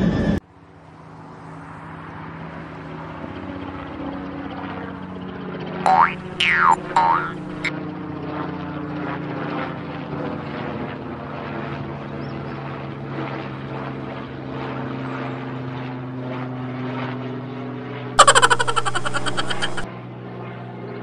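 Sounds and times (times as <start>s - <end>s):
airplane engine droning: 0.0s - 20.2s.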